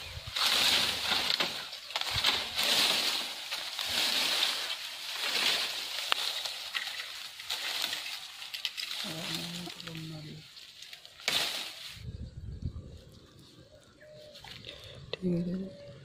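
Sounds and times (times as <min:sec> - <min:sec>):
bamboo leaves and twigs rustling: 0:00.0 - 0:15.4.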